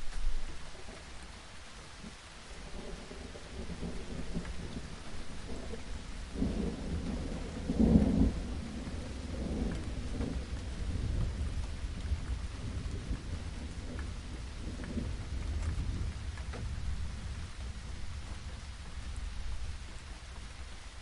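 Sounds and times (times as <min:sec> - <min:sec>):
steady rain: 0:00.0 - 0:21.0
rolling thunder: 0:02.5 - 0:20.8.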